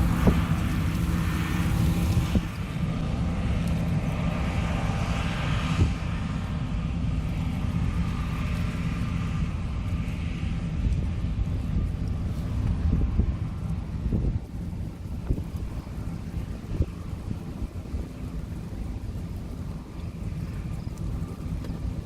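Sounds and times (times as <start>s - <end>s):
combine harvester engine drone: 0.0s - 22.0s
wind rumbling on microphone: 0.0s - 22.0s.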